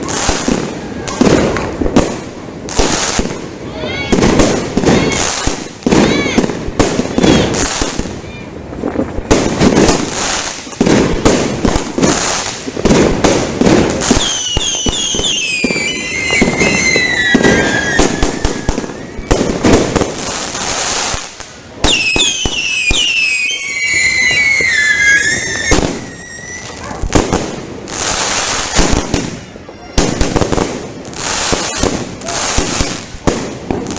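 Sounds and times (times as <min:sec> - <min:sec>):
whistling firework shots: 0:00.0 - 0:08.4, 0:09.0 - 0:33.9
fireworks bangs and crackling: 0:00.0 - 0:33.9.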